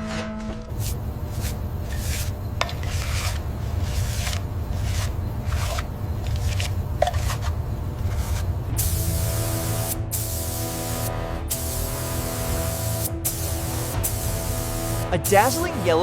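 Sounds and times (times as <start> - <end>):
sanding metal: 0.7 - 16.0.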